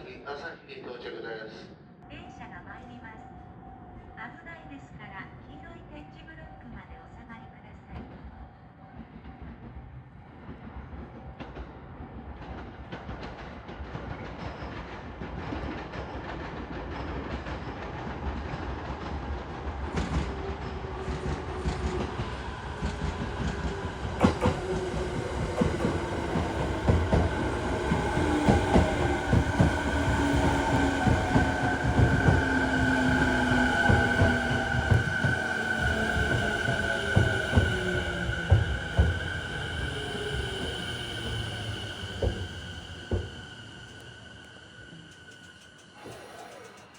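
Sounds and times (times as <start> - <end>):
electric train arriving: 8.0 - 46.9.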